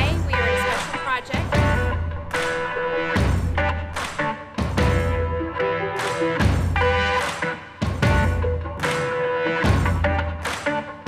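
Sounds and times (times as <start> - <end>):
heavy low beat: 0.0 - 10.6.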